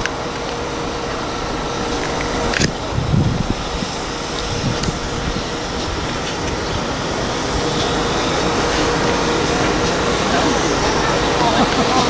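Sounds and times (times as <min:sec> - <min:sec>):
steam locomotive hissing and rumbling: 0:00.0 - 0:12.0.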